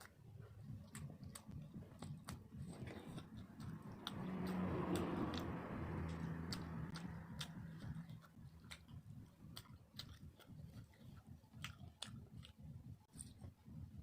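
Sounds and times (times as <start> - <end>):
soft chewing: 0.0 - 14.0
wet mouth clicks and lip smacks: 0.8 - 13.6.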